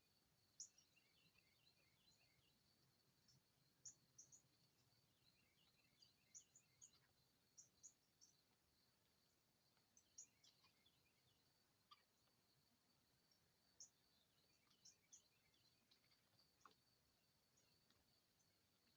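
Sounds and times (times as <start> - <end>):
bird chirps: 0.0 - 2.6, 3.2 - 12.5, 13.2 - 18.9.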